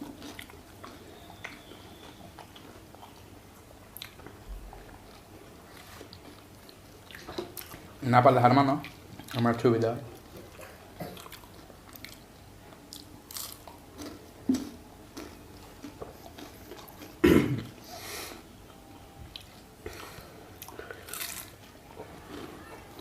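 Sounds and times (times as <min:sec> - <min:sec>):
people chewing crunchy sweets: 0:00.0 - 0:23.0.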